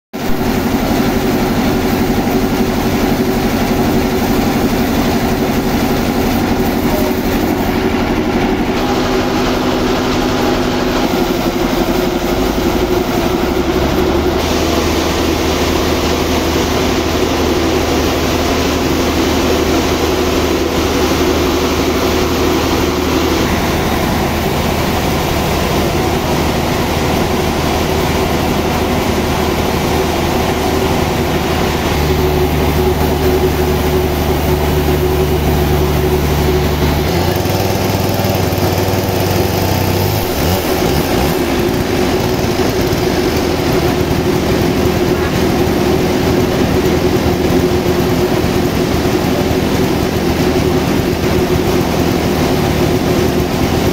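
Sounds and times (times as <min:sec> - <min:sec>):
sawmill machinery humming: 0:00.2 - 0:53.9.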